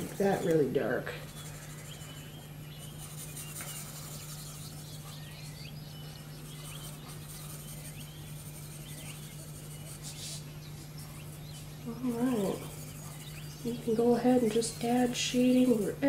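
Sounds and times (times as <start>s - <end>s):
low electrical hum: 0.0s - 16.0s
pencil scratching on paper: 0.0s - 16.0s.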